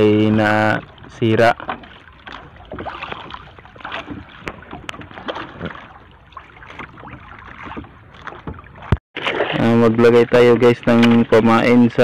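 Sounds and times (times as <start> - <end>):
water sloshing around boat: 0.0 - 12.0
paddle knocking on hull: 0.1 - 11.7.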